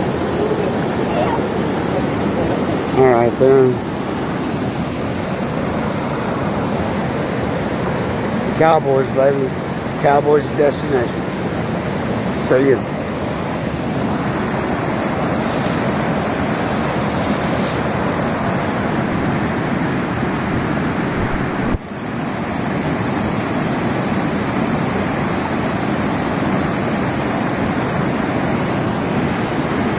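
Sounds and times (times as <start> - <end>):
whitewater rapids rushing: 0.0 - 29.9.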